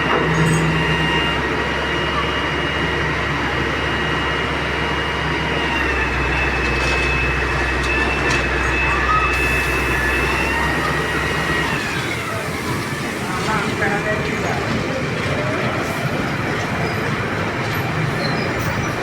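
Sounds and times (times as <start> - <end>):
high-pitched engine whine: 0.0 - 15.7
excavator diesel engine rumble: 0.0 - 19.0.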